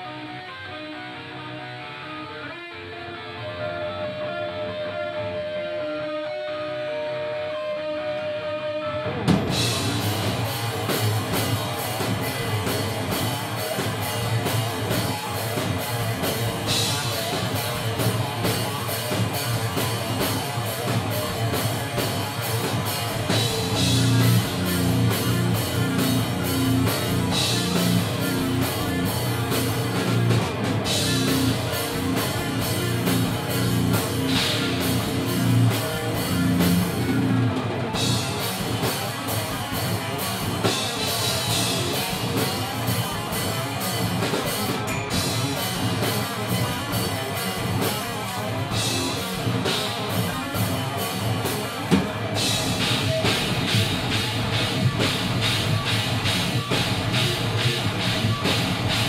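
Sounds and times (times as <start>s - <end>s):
electric guitar: 0.0s - 59.0s
drum kit beat: 9.2s - 59.0s.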